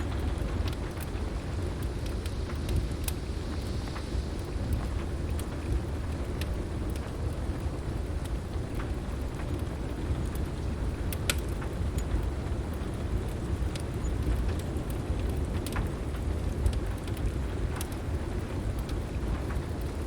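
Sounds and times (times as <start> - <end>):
heavy rain: 0.0 - 20.0
low storm rumble: 0.0 - 20.0
wood fire crackling and popping: 0.0 - 20.0.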